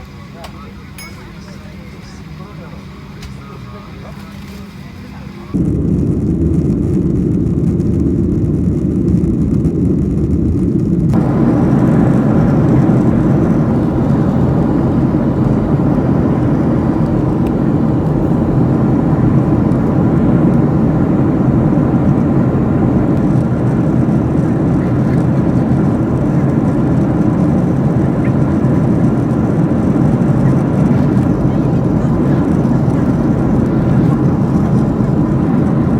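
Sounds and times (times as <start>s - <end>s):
airliner cabin engine rumble: 0.0s - 35.9s.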